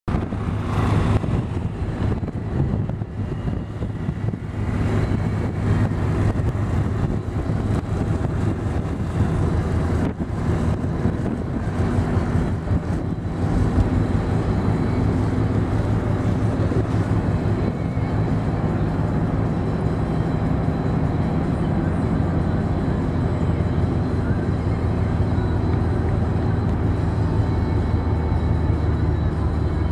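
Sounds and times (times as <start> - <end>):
car engine and road noise: 0.0 - 29.9.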